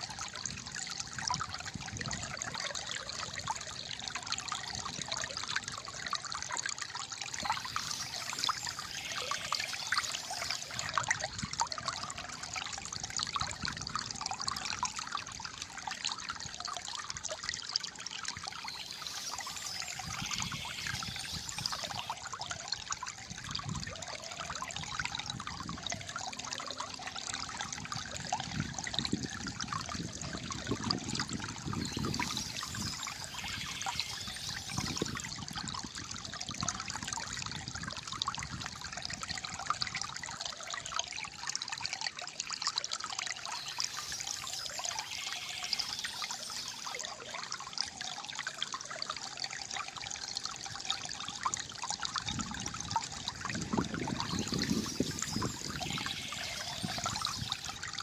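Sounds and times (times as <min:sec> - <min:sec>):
water trickling over stones: 0:00.0 - 0:58.0.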